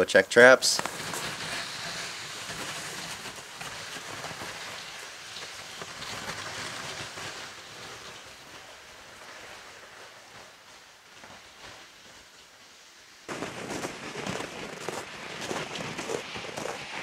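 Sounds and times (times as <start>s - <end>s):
sled sliding over snow: 0.4s - 17.0s
footsteps crunching in snow: 0.8s - 12.6s, 13.3s - 17.0s.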